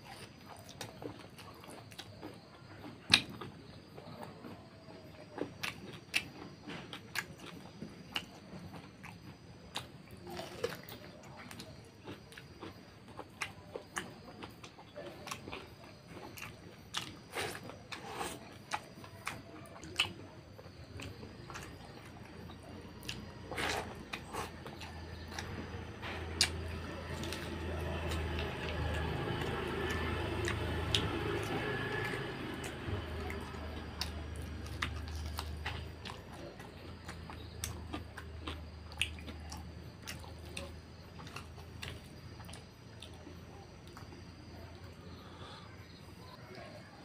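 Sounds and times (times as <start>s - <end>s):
wet chewing: 0.0s - 46.4s.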